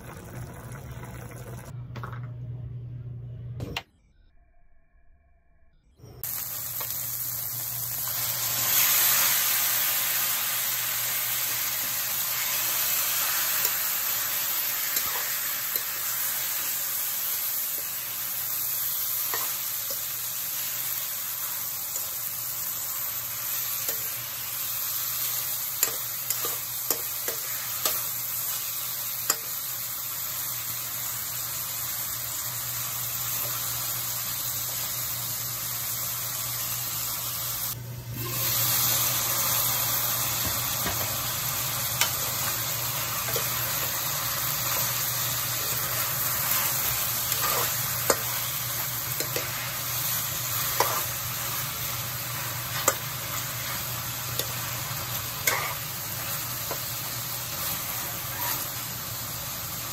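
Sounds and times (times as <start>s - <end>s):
food sizzling in a wok: 6.1s - 59.9s.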